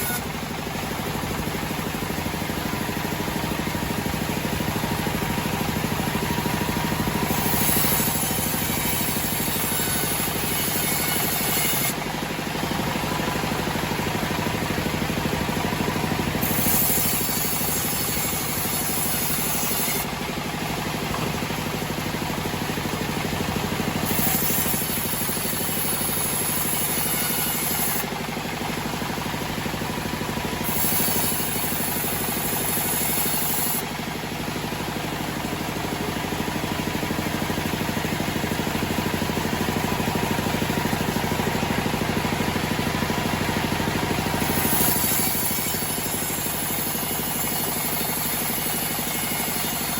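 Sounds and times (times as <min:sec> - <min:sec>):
band sawmill mechanical drone: 0:00.0 - 0:49.9.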